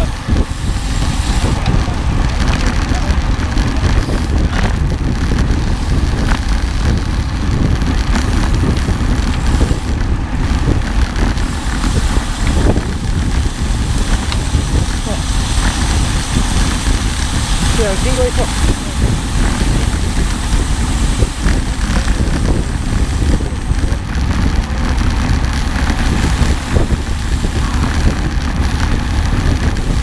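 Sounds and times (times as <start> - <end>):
vehicle engine rumble: 0.0 - 30.0
wind noise on microphone: 0.0 - 30.0.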